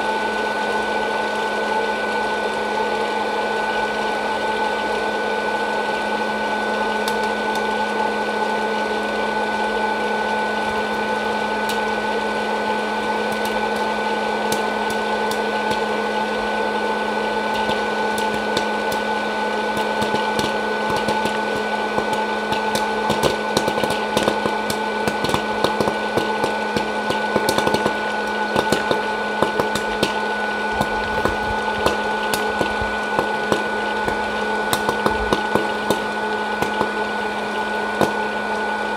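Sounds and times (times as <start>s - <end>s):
popcorn popper fan humming: 0.0s - 38.9s
popcorn kernels popping: 6.5s - 38.9s.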